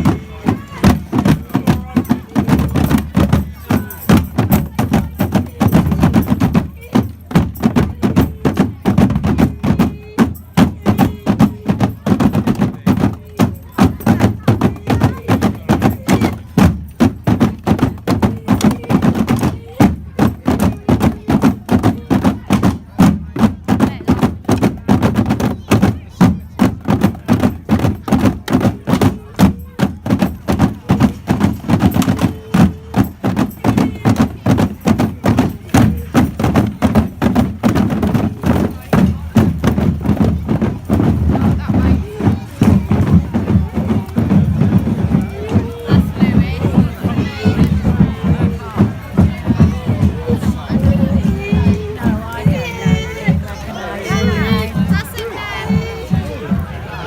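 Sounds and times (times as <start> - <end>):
rapid knocks and thumps: 0.0 - 53.5.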